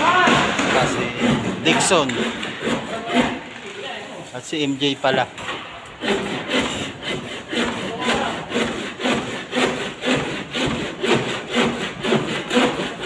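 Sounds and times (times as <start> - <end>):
handsaw cutting wood: 0.0 - 13.0.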